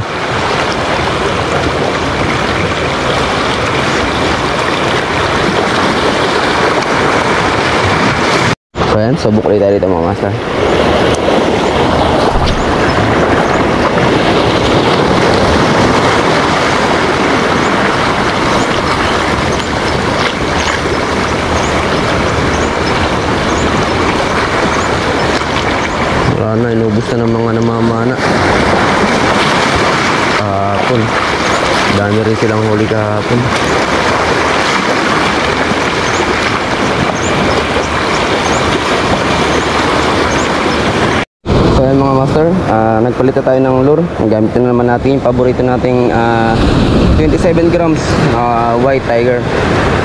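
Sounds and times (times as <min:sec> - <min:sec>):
sea waves washing: 0:00.0 - 0:50.0
surf at water's edge: 0:00.0 - 0:50.0
wind rushing: 0:00.0 - 0:50.0.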